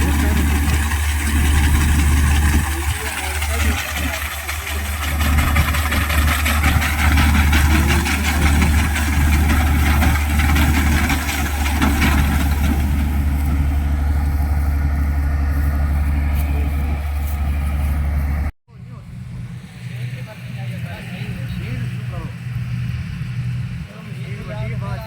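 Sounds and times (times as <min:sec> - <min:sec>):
machinery engine humming: 0:00.0 - 0:25.0.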